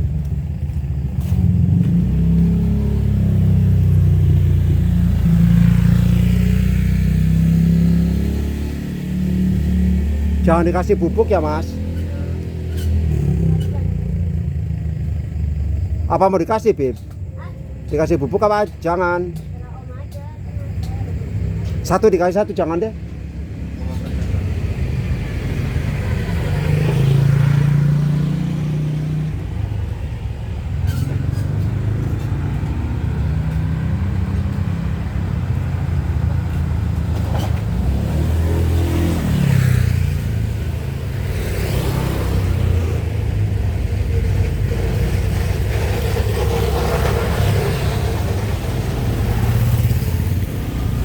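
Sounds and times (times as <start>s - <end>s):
vehicles driving past: 0.0s - 51.0s.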